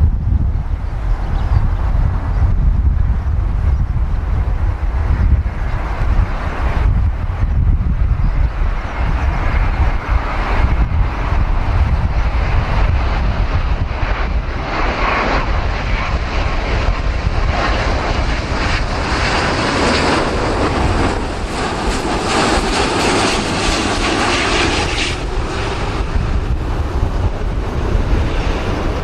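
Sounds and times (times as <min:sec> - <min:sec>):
jet plane passing: 0:00.0 - 0:29.0
low rumble: 0:00.0 - 0:29.0
wind buffeting microphone: 0:00.0 - 0:29.0.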